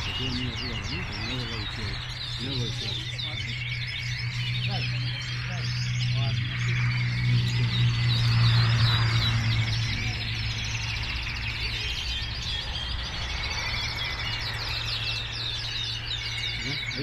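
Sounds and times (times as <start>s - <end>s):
canaries singing: 0.0s - 17.0s
low hum: 0.0s - 17.0s.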